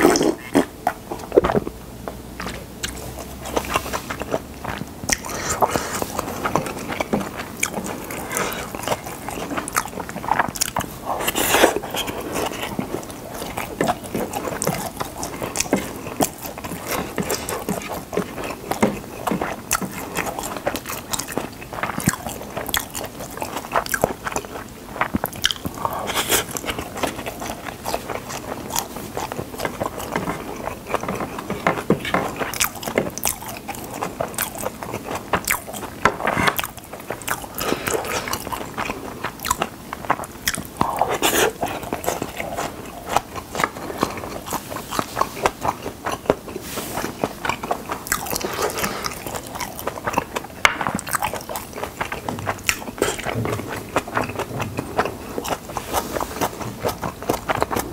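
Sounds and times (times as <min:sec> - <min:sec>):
wet chewing and mouth clicks: 0:00.0 - 0:57.9.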